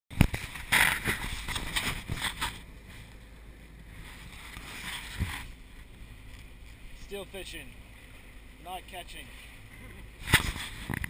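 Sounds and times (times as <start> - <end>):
rush of wind and water: 0.1 - 11.0.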